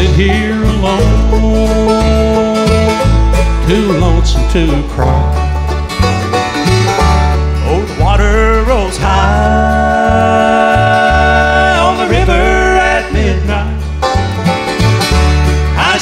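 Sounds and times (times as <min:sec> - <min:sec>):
bluegrass band playing: 0:00.0 - 0:16.0
low bass notes: 0:00.0 - 0:16.0.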